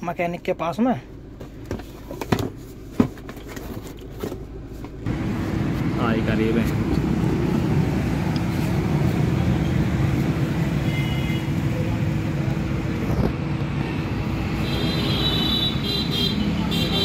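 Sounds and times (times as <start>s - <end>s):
constant low hum: 0.0s - 16.4s
street traffic noise: 0.0s - 17.0s.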